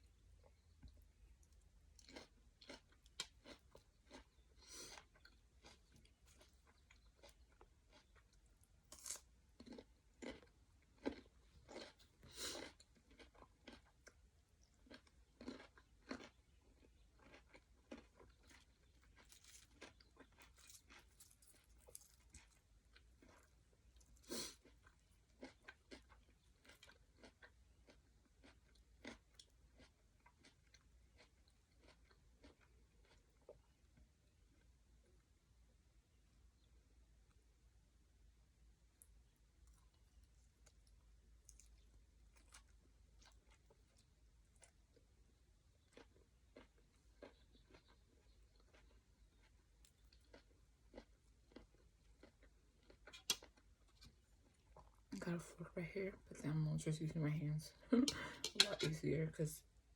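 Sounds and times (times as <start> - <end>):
chewing with crisp crunches: 0.0 - 37.4, 38.7 - 55.6, 56.4 - 59.9.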